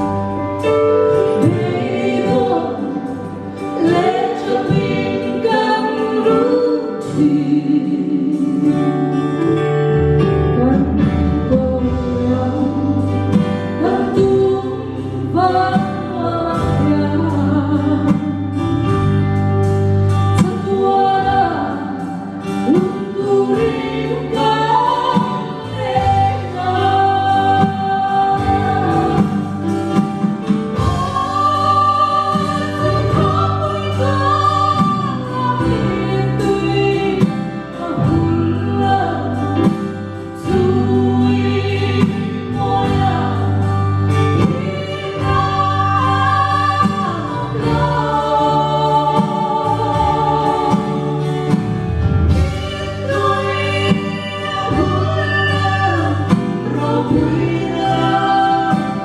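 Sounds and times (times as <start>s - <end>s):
drums: 0.0s - 59.0s
woman singing into microphone: 0.0s - 59.0s.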